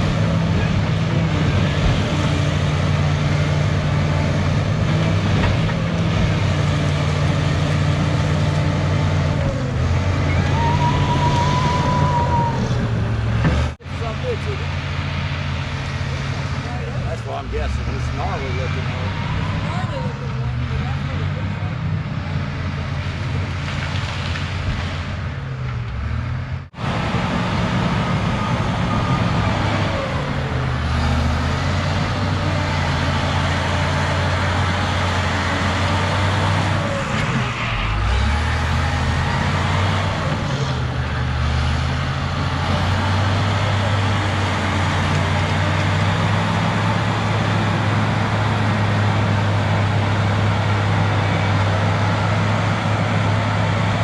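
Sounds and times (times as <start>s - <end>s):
bulldozer diesel engine working: 0.0s - 54.0s.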